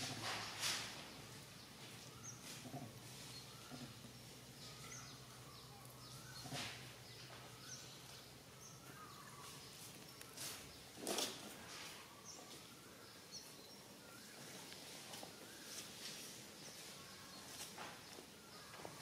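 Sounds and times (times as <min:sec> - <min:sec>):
soft rustle: 0:00.0 - 0:08.2, 0:08.9 - 0:19.0
faint chirping calls: 0:00.0 - 0:19.0.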